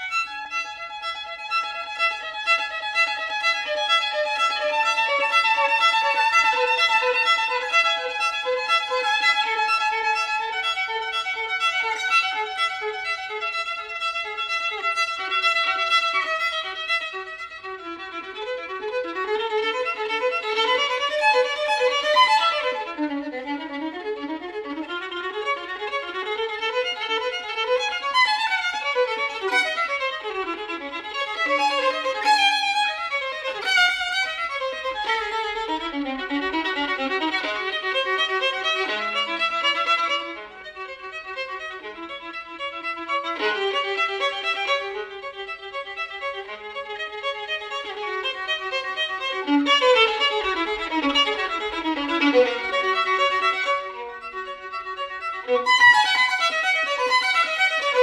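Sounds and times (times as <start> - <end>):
violin playing a melody: 0.0 - 58.0.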